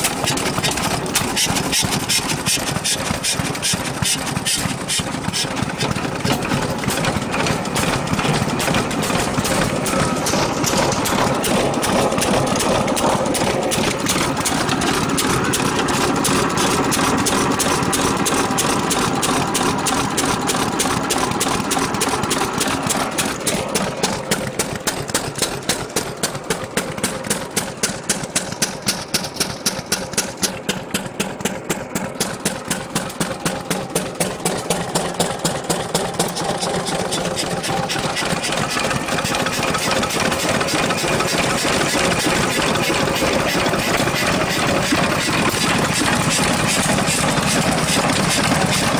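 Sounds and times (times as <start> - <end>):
stationary gas engine running: 0.0 - 48.9.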